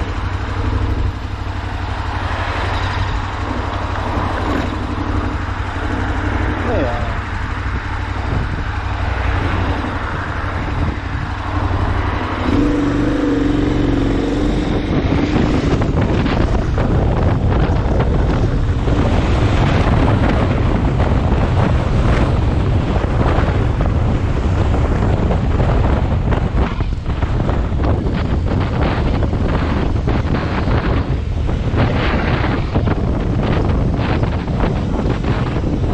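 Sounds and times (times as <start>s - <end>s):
road and vehicle noise: 0.0s - 35.9s
steady engine drone: 0.0s - 35.9s
wind buffeting microphone: 0.0s - 35.9s.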